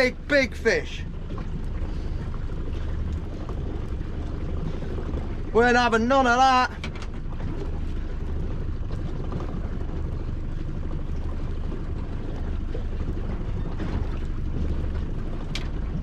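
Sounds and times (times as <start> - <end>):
sea: 0.0 - 16.0
wind: 0.0 - 16.0.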